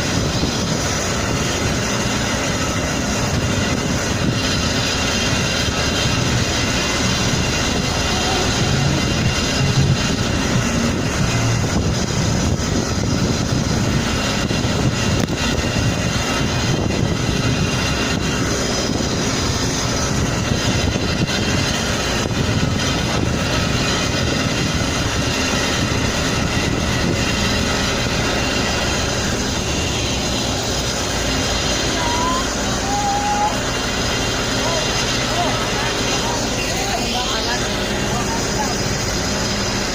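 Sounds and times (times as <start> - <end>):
road and traffic noise: 0.0 - 39.9
vehicle engine running: 0.0 - 39.9.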